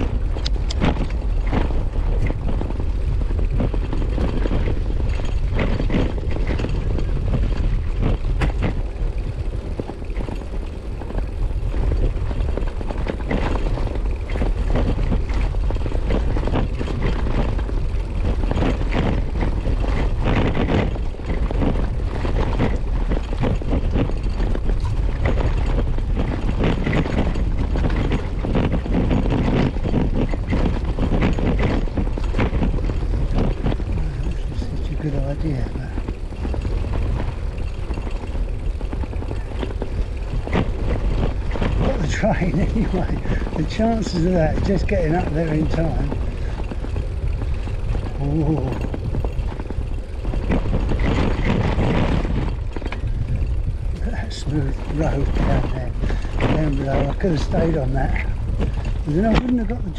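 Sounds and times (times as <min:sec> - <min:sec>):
bicycle rattling and knocking: 0:00.0 - 0:59.9
wind buffeting microphone: 0:00.0 - 0:59.9.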